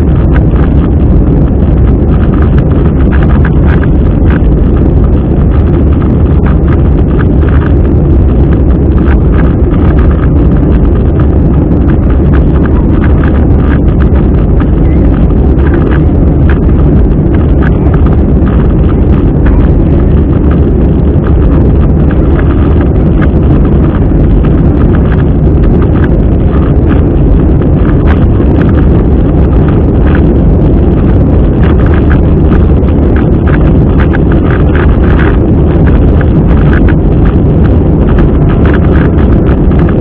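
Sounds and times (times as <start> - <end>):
jet engine cabin roar: 0.0 - 40.0.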